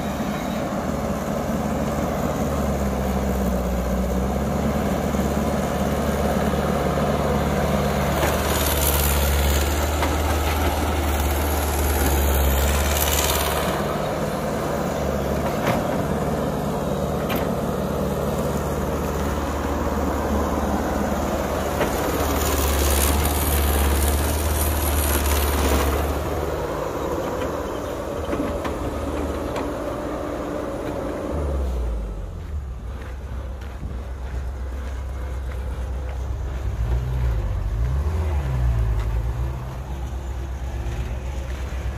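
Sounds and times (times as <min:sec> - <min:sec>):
excavator diesel engine working: 0:00.0 - 0:41.9.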